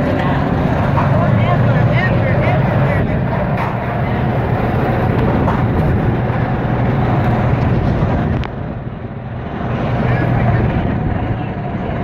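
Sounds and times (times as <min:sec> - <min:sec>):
golf cart rumbling: 0:00.0 - 0:12.0.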